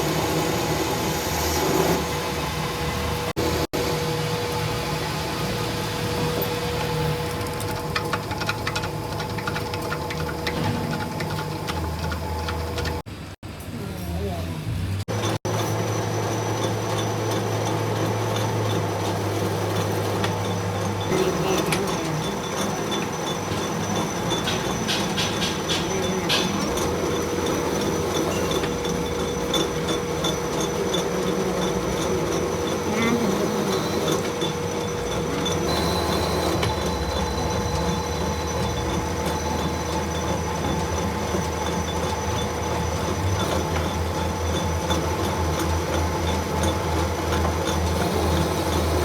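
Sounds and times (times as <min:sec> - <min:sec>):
workshop machinery whine and hum: 0:00.0 - 0:49.0.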